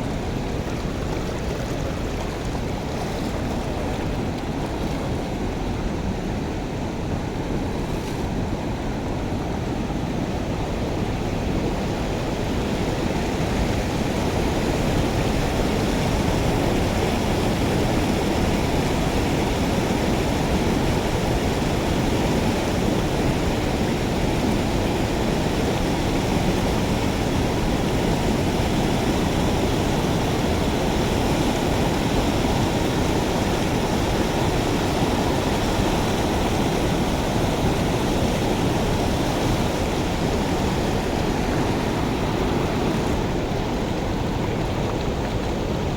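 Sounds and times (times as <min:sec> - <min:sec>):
water rushing through culvert: 0:00.0 - 0:45.9.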